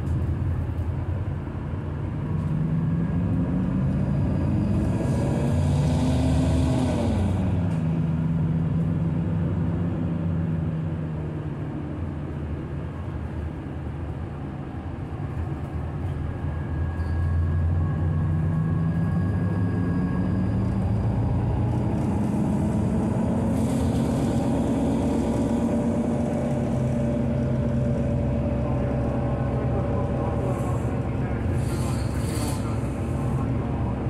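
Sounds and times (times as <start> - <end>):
bus engine: 0.0 - 34.0
road noise: 0.0 - 34.0.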